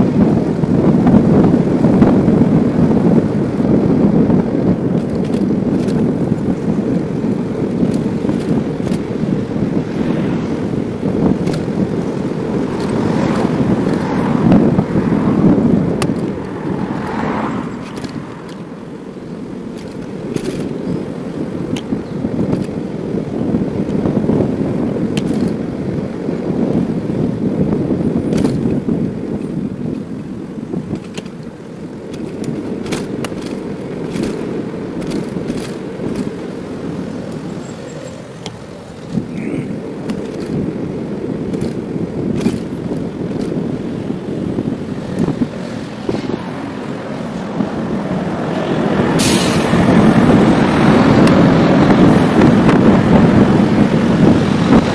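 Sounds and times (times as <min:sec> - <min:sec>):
bicycle clicks and rattles: 0:00.0 - 0:54.9
low road rumble: 0:00.0 - 0:54.9
wind noise: 0:00.0 - 0:54.9.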